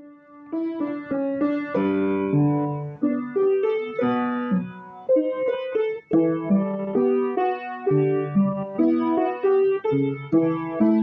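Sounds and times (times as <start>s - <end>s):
slow solo piano melody: 0.0s - 11.0s.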